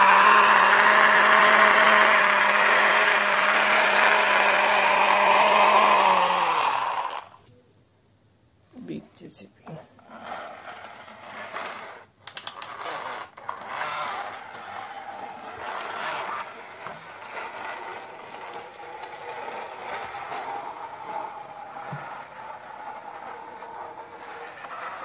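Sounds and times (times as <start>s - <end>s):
toy excavator rolling on floor: 0.0s - 7.4s, 9.7s - 25.0s.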